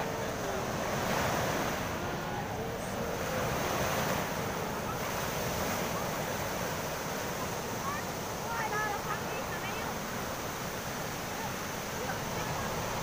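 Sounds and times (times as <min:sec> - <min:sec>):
ocean surf breaking: 0:00.0 - 0:13.0
waves washing up beach: 0:00.0 - 0:13.0.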